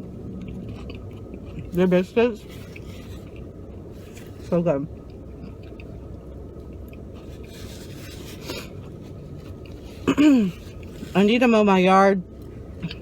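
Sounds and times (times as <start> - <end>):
person chewing biscuit: 0.0 - 11.2
steady low rumble: 0.0 - 13.0.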